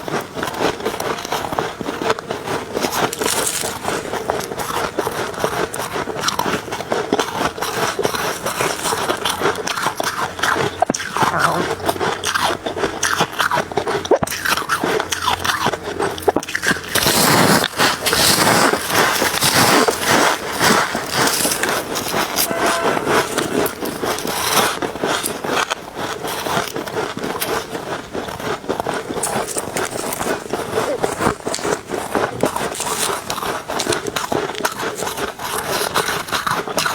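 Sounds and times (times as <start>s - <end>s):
person chewing crunchy ice: 0.0s - 22.6s, 23.3s - 36.9s.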